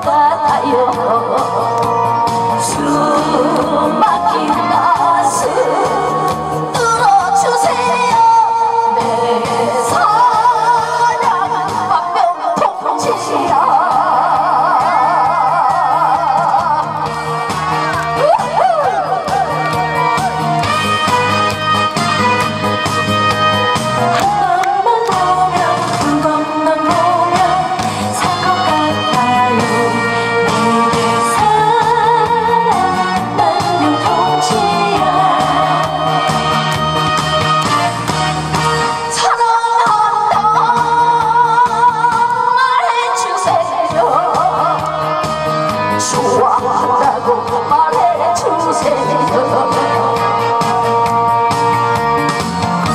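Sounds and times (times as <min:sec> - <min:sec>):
woman singing into microphone: 0:00.0 - 0:17.0, 0:18.1 - 0:19.7, 0:24.1 - 0:36.8, 0:39.0 - 0:51.8
musical accompaniment: 0:00.0 - 0:52.9.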